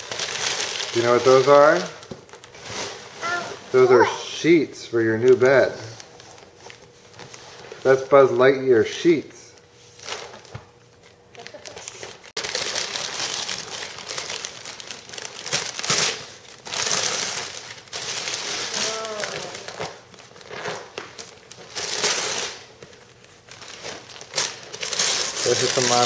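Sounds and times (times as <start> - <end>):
wrapping paper crinkling: 0.0 - 4.1, 5.1 - 8.4, 9.0 - 26.0.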